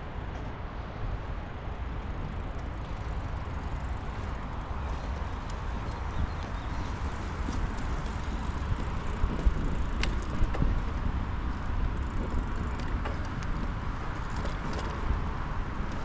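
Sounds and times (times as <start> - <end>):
bicycle rattles and clicks: 0.0 - 16.0
bicycle rolling rumble: 0.0 - 16.0
wind noise: 0.0 - 16.0.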